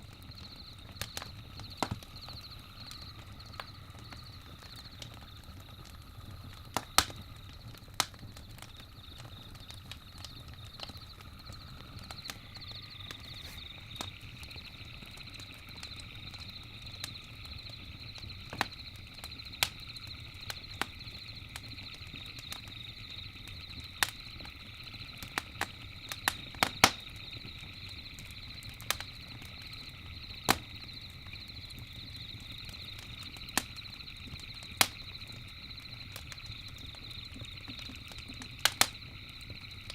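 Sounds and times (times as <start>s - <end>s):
campfire crackling and popping: 0.0s - 39.9s
high night insect trill: 0.0s - 39.9s
low fire rumble: 0.0s - 39.9s
lower insect trill: 0.0s - 39.9s.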